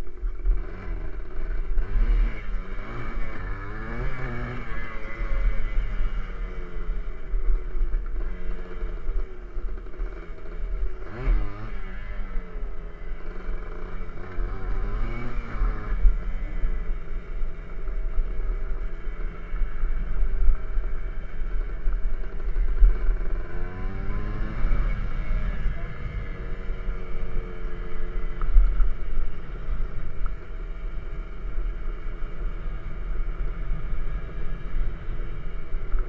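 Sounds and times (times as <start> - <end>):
dirt bike engine revving: 0.4 - 36.0.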